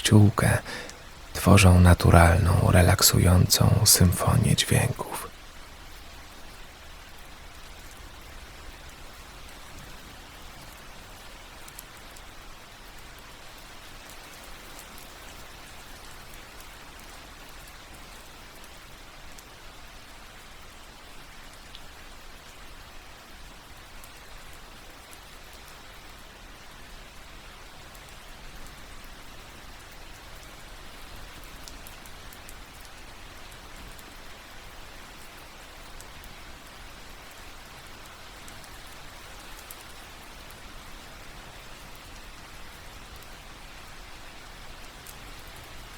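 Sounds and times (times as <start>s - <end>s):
rain pattering on leaves: 0.1s - 45.9s.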